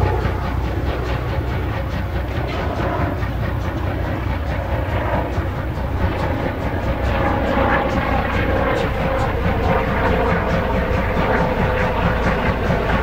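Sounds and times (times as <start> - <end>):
helicopter rotor drone: 0.0 - 13.0
steam locomotive exhaust: 0.0 - 13.0.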